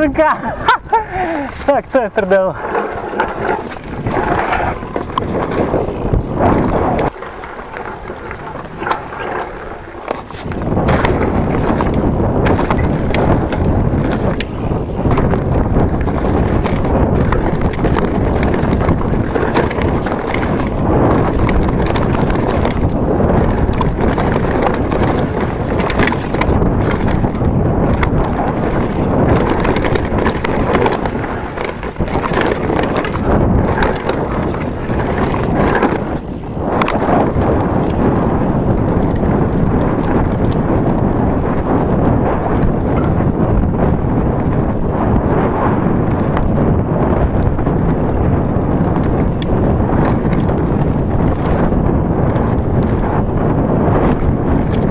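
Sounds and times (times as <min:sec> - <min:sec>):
bike rattling over bumps: 0:00.0 - 0:54.9
bike tyre noise: 0:00.0 - 0:54.9
wind rushing on microphone: 0:00.0 - 0:54.9.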